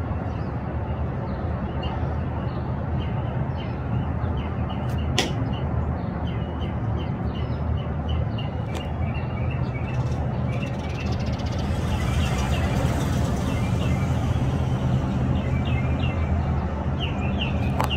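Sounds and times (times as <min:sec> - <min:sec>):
small birds chirping: 0:01.2 - 0:17.9.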